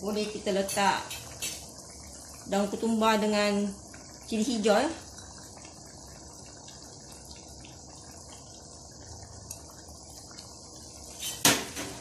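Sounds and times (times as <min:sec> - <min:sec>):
sauce bubbling: 0:00.0 - 0:12.0.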